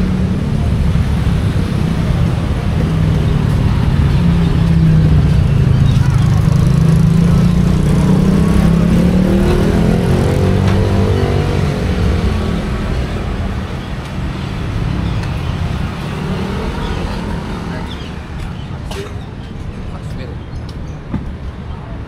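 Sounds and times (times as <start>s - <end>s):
vehicle engine running close: 0.0s - 19.6s
general traffic noise: 0.0s - 22.0s.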